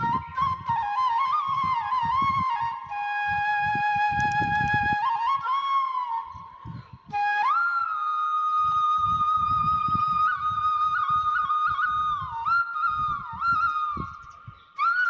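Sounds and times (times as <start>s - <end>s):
flute melody: 0.0s - 15.0s.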